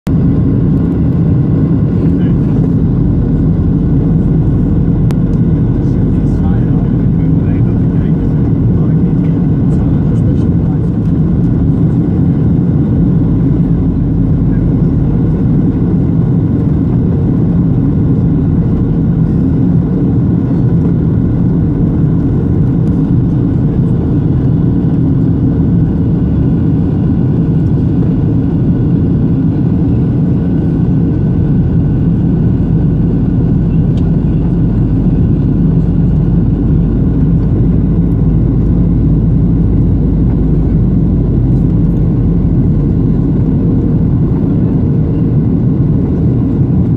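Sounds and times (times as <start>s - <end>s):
aircraft cabin engine rumble: 0.1s - 46.9s
faint steady engine tones: 0.3s - 46.9s.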